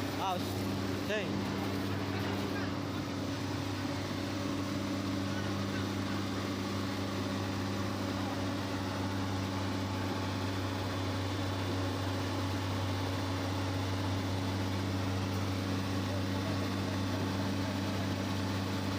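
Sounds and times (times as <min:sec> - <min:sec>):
diesel engine droning: 0:00.0 - 0:18.9.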